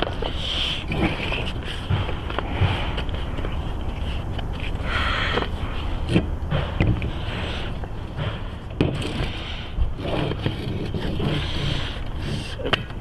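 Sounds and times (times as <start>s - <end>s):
rubber tire scraping on rim: 0.0s - 13.0s.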